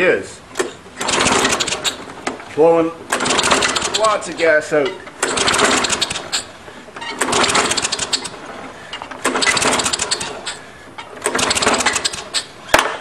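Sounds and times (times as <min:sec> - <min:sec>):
mower engine pull cord cranking: 0:00.5 - 0:12.9.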